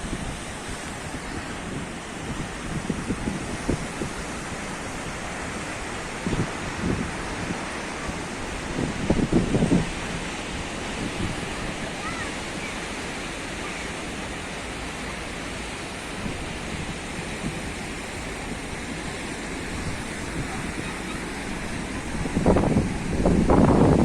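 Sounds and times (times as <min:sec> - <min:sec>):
sea surf on shore: 0:00.0 - 0:24.0
wind on microphone: 0:00.0 - 0:24.0.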